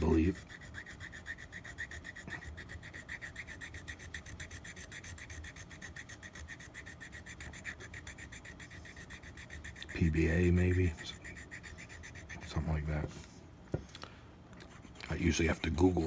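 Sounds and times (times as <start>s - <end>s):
hand file rasping: 0.0s - 12.9s.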